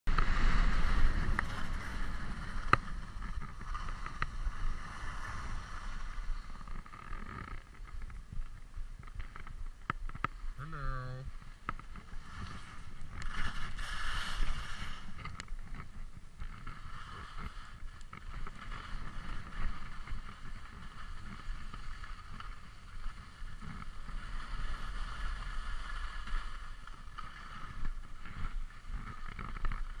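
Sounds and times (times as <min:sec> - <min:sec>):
skis scraping over snow: 0:00.1 - 0:10.6, 0:11.3 - 0:30.0.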